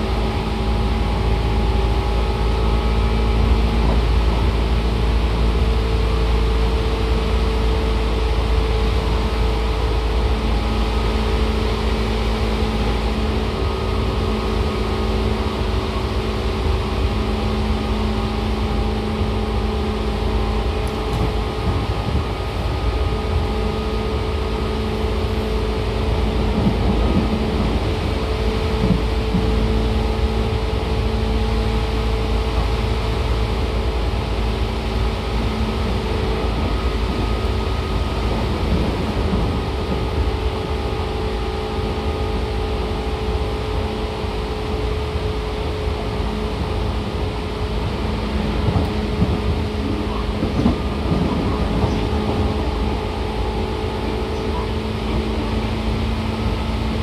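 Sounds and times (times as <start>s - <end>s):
traction equipment hum: 0.0s - 57.0s
train wheels rumbling on rail: 0.0s - 57.0s.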